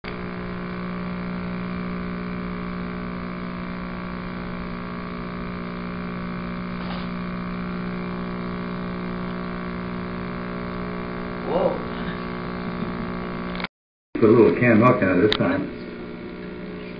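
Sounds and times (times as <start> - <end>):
electrical buzz with low hum: 0.0 - 16.9.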